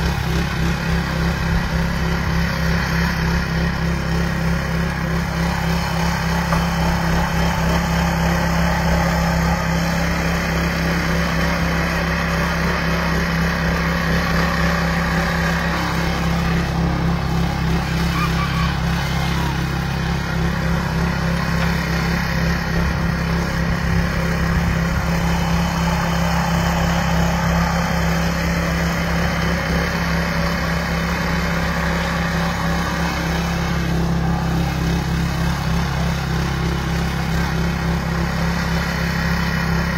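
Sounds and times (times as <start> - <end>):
tiller engine running under load: 0.0 - 39.9.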